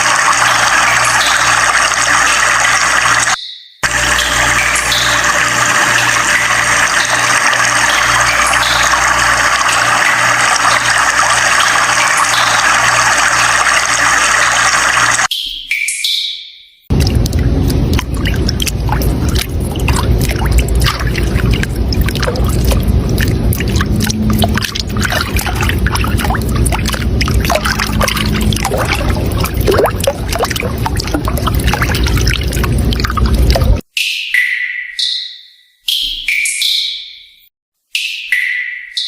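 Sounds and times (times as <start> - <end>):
water flowing and splashing: 0.0 - 15.3, 16.9 - 33.8.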